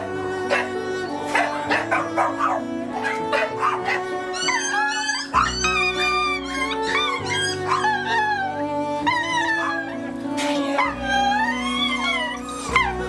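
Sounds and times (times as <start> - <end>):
background music with held notes: 0.0 - 13.0
dogs barking and yipping: 0.0 - 13.0
dogs whining: 0.0 - 13.0.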